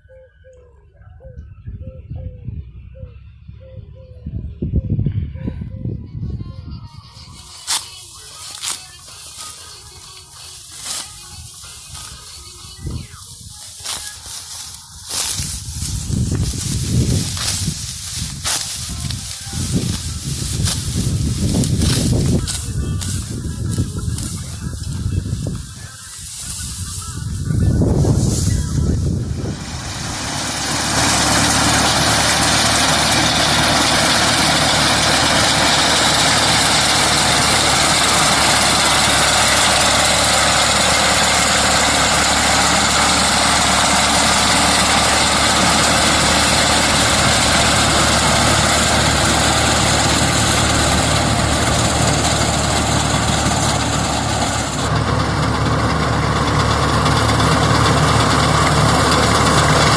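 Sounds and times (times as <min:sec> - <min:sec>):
tractor engine running: 0:05.9 - 0:59.9.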